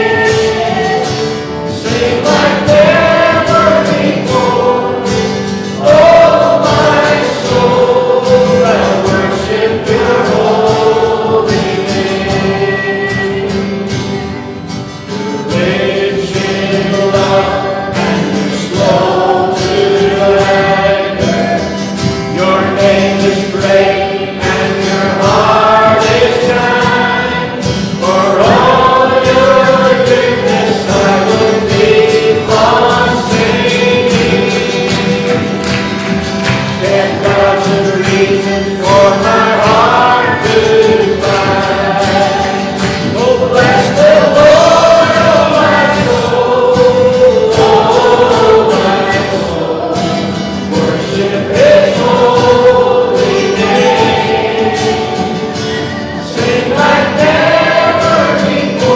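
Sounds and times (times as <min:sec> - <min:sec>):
congregation singing: 0:00.0 - 0:58.9
instrumental accompaniment: 0:00.0 - 0:58.9.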